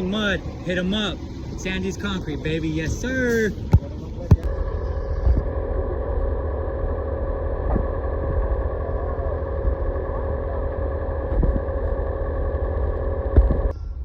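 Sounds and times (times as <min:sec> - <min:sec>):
heavy machinery engine running: 0:00.0 - 0:13.8.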